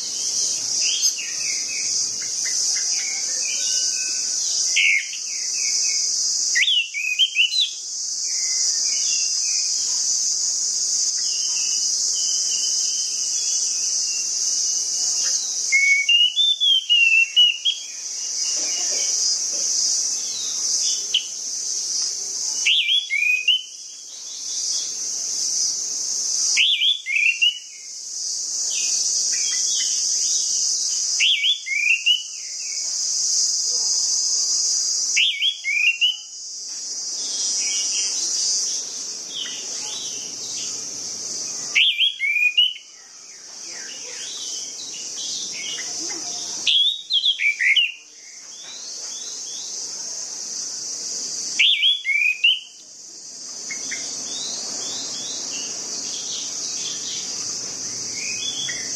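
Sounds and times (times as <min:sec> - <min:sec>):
bird singing whistled notes: 0:00.0 - 0:19.3, 0:20.1 - 0:21.4, 0:22.5 - 0:25.0, 0:26.5 - 0:28.0, 0:28.7 - 0:33.0, 0:35.1 - 0:36.4, 0:37.2 - 0:49.7, 0:51.5 - 0:52.8, 0:53.6 - 0:57.5, 0:58.1 - 0:58.9
high-pitched insect hiss: 0:00.0 - 0:58.9.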